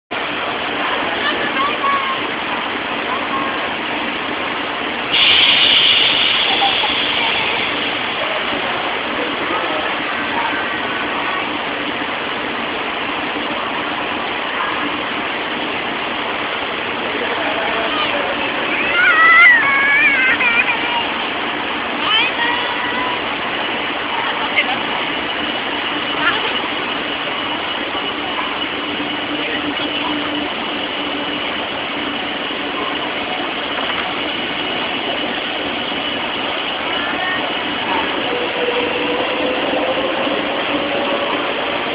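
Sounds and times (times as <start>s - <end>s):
train rushing noise: 0.1s - 41.9s.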